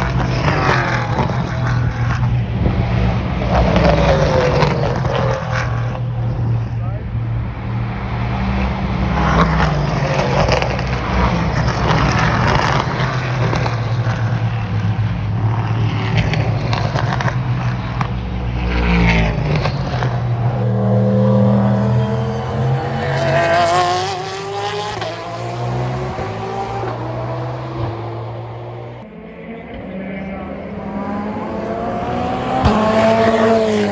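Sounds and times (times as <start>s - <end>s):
low engine drone: 0.0s - 33.9s
race cars passing at speed: 0.0s - 33.9s.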